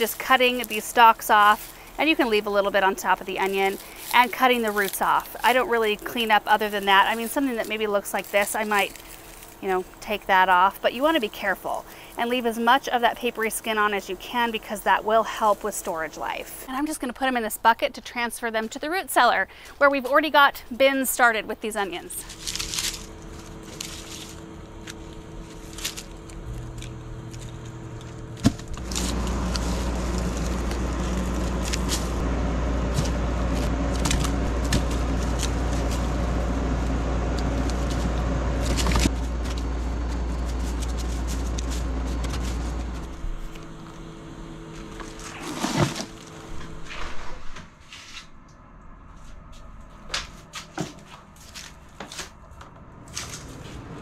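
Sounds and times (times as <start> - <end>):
loud mechanical hum: 0.0 - 16.7, 21.6 - 54.0.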